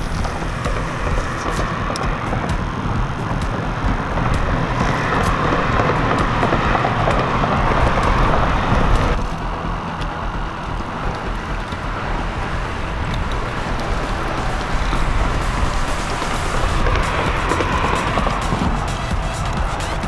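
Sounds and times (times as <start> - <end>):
low rumble: 0.0 - 20.0
road traffic on bridge: 0.0 - 20.0.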